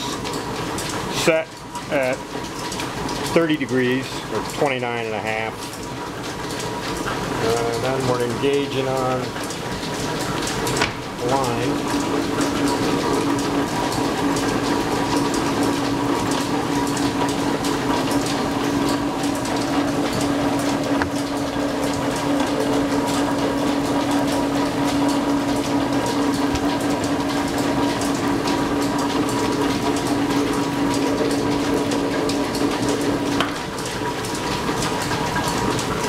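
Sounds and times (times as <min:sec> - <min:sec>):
lathe machine hum: 0:05.8 - 0:36.0.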